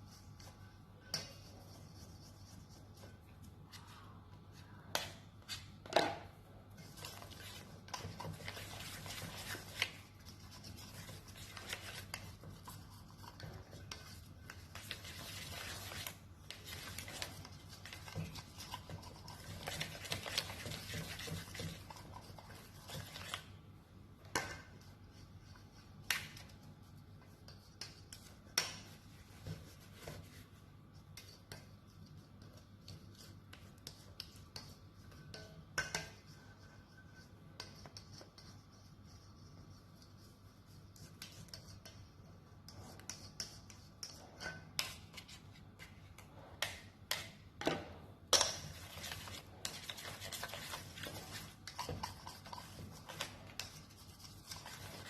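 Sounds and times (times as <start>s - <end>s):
utensil scraping batter in bowl: 0.0s - 4.1s, 6.6s - 23.6s, 24.2s - 46.9s, 48.6s - 55.0s.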